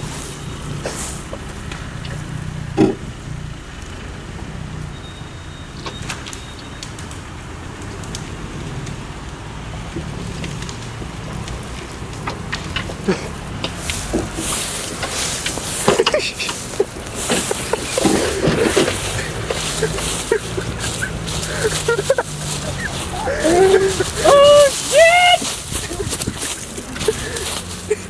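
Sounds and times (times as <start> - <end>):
engine running at low revs: 0.0 - 24.5.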